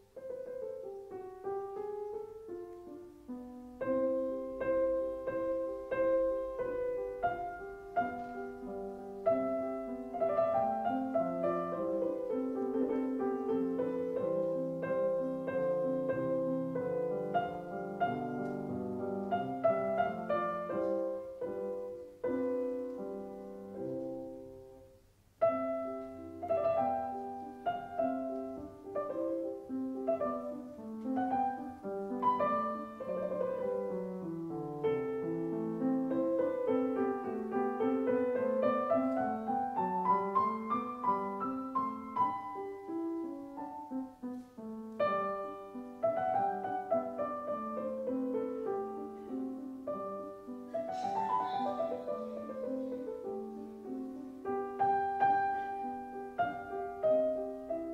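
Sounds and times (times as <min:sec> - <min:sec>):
slow piano piece: 0:00.0 - 0:57.9.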